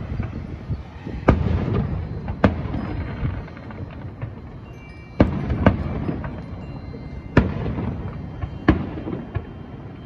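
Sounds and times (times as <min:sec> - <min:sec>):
firework booms with echo: 0:00.0 - 0:04.6, 0:05.2 - 0:06.7, 0:07.3 - 0:09.6.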